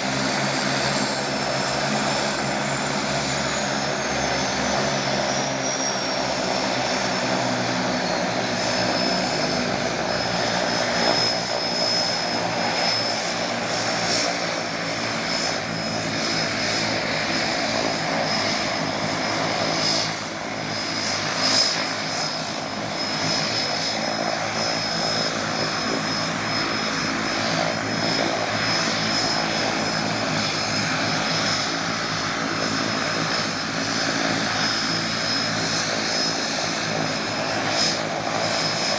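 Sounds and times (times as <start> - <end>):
high turbine whine: 0.0 - 38.9
propeller drone: 0.0 - 38.9.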